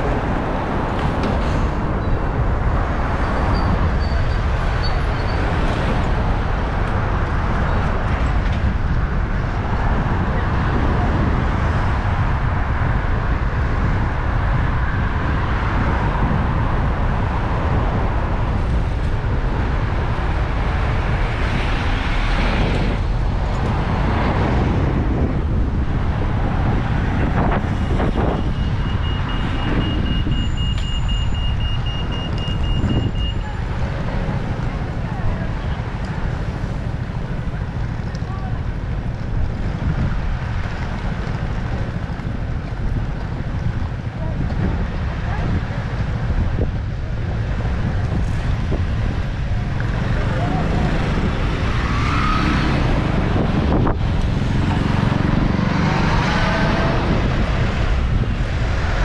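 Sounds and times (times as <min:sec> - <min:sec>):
road traffic noise: 0:00.0 - 0:59.0
wind buffeting microphone: 0:00.0 - 0:59.0.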